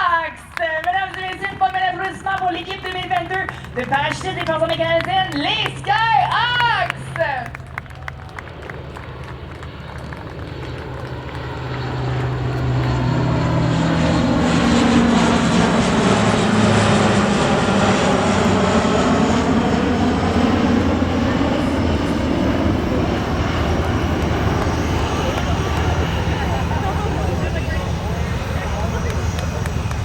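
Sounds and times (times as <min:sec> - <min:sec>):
propeller plane flying past: 0:00.0 - 0:30.0.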